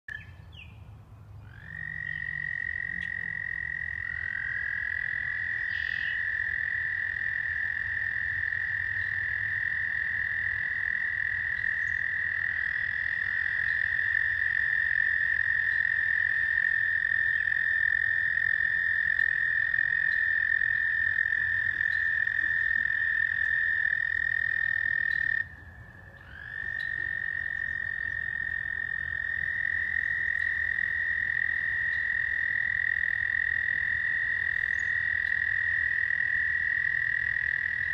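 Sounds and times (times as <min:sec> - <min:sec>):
frogs trilling: 0:01.4 - 0:37.9.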